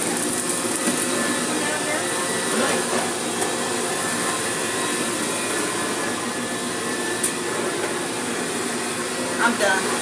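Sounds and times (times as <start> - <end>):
car wash machinery and water spray: 0.0 - 10.0.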